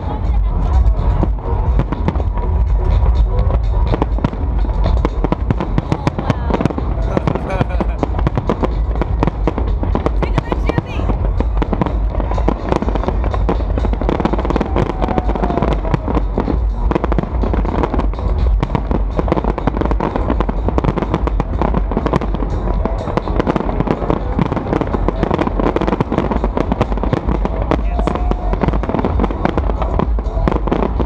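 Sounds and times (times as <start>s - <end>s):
music: 0.0s - 31.0s.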